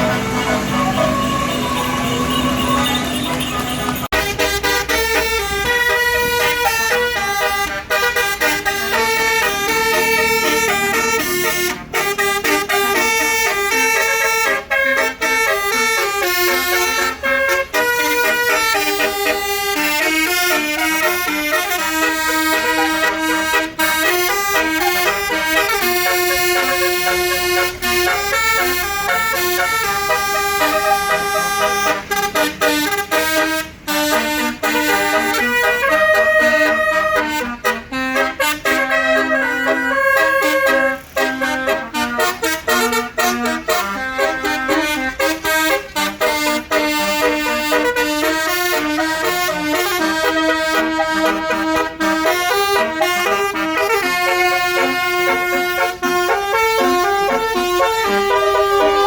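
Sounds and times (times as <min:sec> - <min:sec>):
bus horn playing a tune: 0:00.0 - 0:59.0.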